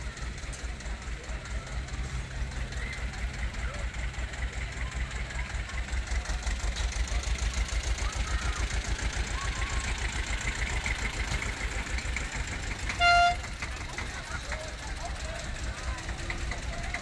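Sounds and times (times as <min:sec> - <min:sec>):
tractor engine running slowly: 0:00.0 - 0:17.0.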